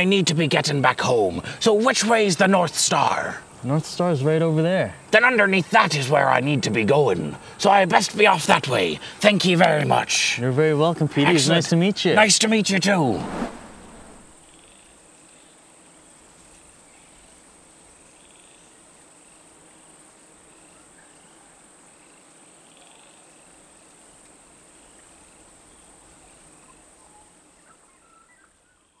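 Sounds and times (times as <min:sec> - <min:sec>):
cricket chirps: 0:00.0 - 0:29.0.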